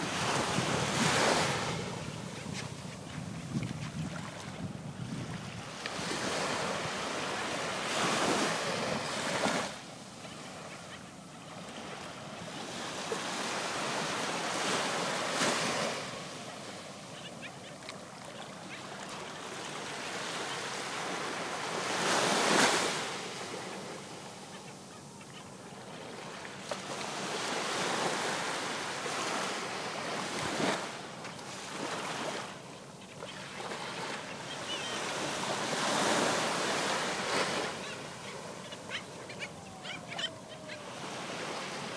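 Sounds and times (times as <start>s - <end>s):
small waves breaking on beach: 0.0s - 41.9s.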